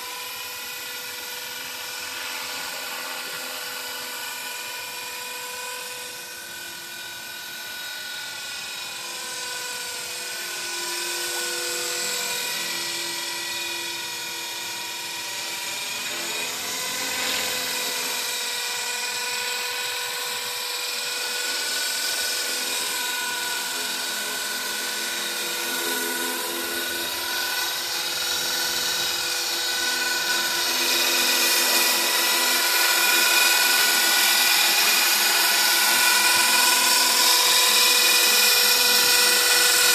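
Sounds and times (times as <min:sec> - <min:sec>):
rc helicopter high whine: 0:00.0 - 0:39.9.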